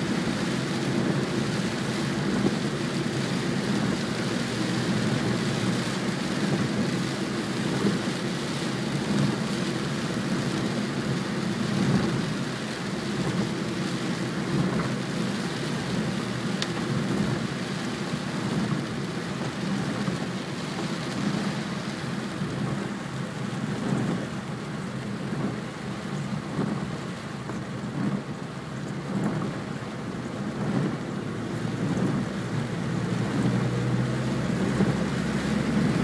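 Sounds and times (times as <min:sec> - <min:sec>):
rain on a car: 0:00.0 - 0:36.0
tyre noise on wet road: 0:00.0 - 0:36.0.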